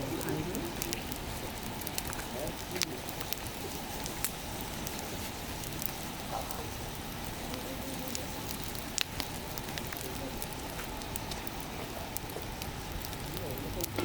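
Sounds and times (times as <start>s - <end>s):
campfire crackling: 0.0s - 14.0s
fire hiss: 0.0s - 14.0s
loud fire snap: 0.0s - 14.0s.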